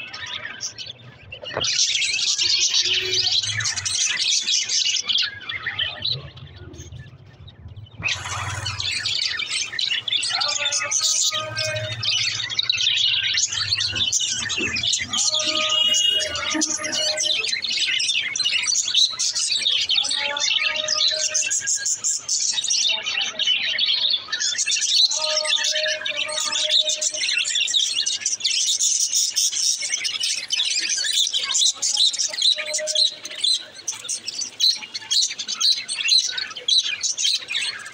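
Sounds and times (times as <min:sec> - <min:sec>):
budgerigars chattering and warbling: 0:00.0 - 0:37.9.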